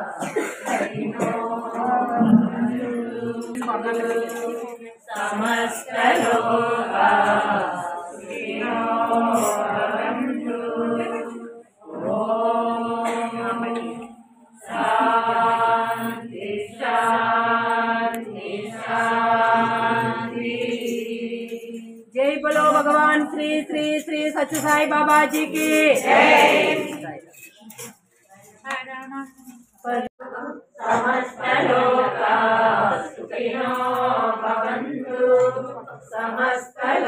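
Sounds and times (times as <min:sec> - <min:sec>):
group chanting devotional song: 0:00.0 - 0:27.5, 0:29.8 - 0:37.0.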